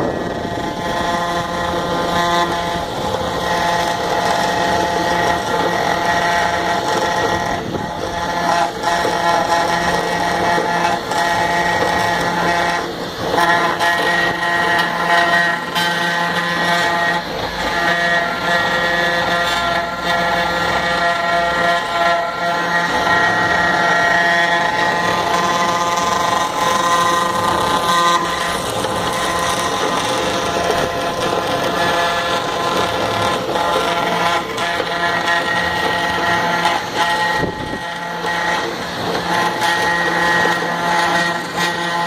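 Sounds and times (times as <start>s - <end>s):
rasp of wood cutting: 0.0s - 42.0s
router spindle whining: 0.0s - 42.0s.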